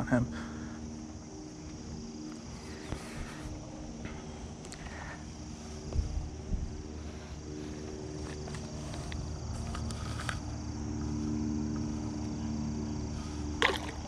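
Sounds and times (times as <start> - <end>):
low motor drone: 0.0 - 14.0.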